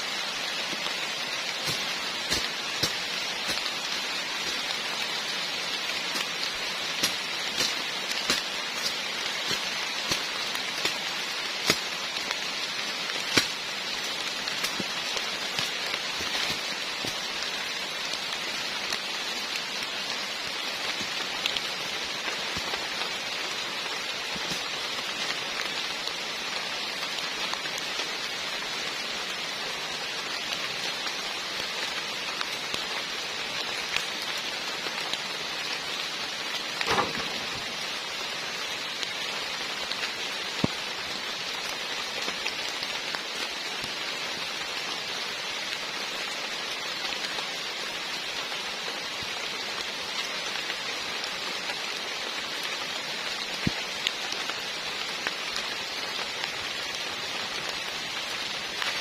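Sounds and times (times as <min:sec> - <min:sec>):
heavy rain falling: 0:00.0 - 0:59.0
raindrops striking close by: 0:00.0 - 0:59.0.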